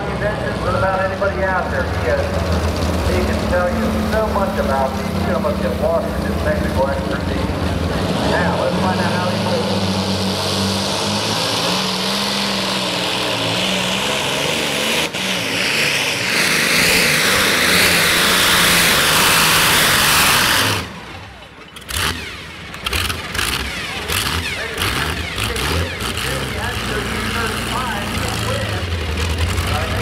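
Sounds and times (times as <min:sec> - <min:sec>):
engines idling unevenly: 0:00.0 - 0:30.0
tractor engines at full throttle: 0:00.0 - 0:30.0.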